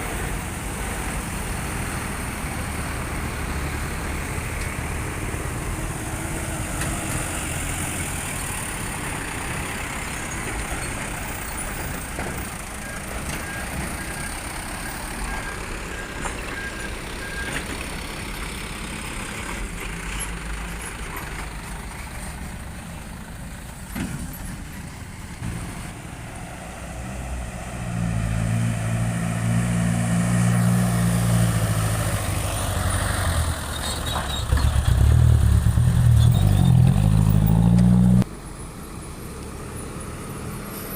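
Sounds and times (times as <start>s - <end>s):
diesel truck engines running: 0.0s - 40.9s.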